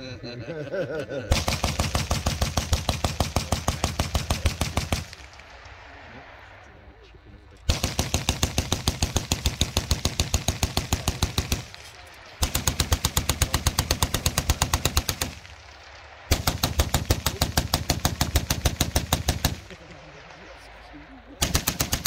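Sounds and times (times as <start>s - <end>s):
machine guns firing in bursts: 1.3s - 5.8s, 7.6s - 20.6s, 21.4s - 22.0s.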